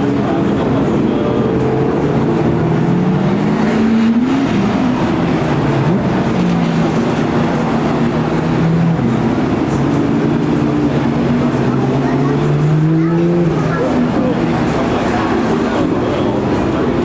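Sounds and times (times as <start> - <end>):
car engines at low revs: 0.0 - 17.0.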